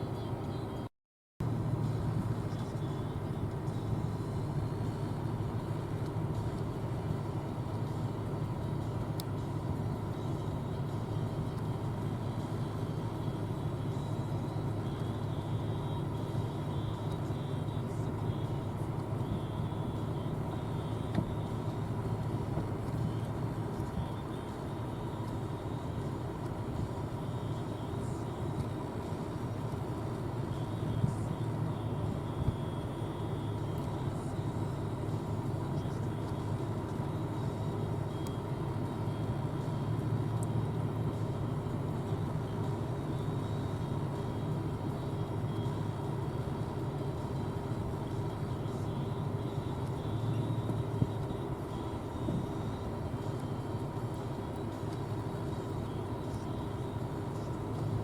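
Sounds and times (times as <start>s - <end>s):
combine harvester droning: 0.0s - 58.0s
faint machine whine: 0.0s - 58.0s.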